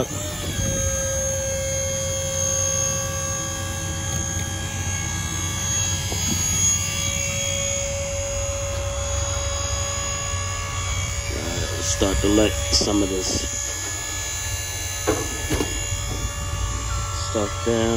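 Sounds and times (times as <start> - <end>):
hydraulic pump whining: 0.0 - 17.9.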